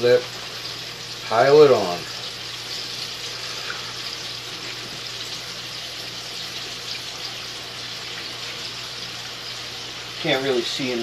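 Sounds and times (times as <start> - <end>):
patties sizzling in a frying pan: 0.0 - 11.0.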